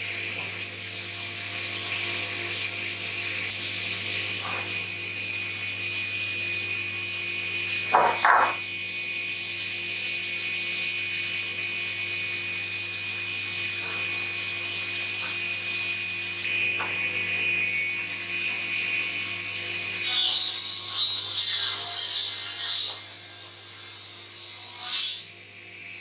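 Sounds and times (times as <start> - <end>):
woodworking machine whining: 0.5 - 23.9.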